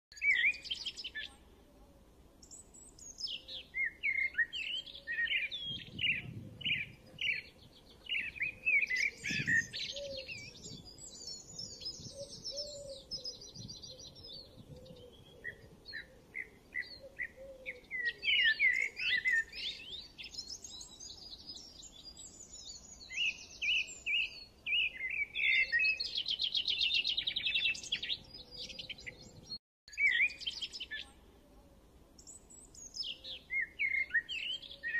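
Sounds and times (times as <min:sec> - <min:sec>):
small birds chirping: 0:00.1 - 0:01.5, 0:02.4 - 0:31.6, 0:32.2 - 0:34.9.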